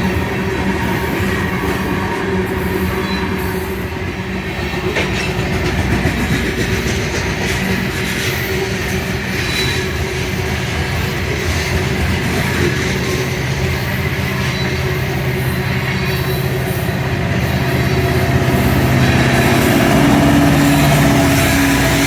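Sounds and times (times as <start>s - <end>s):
freight train rolling past: 0.0s - 22.0s
wheels clacking over rail joints: 0.0s - 22.0s.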